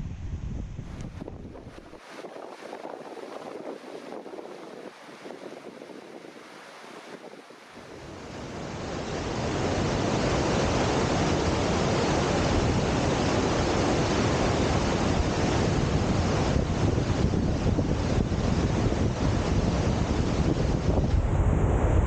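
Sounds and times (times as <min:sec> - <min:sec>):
wind buffeting microphone: 0:00.0 - 0:22.0
rushing water roar: 0:01.0 - 0:22.0.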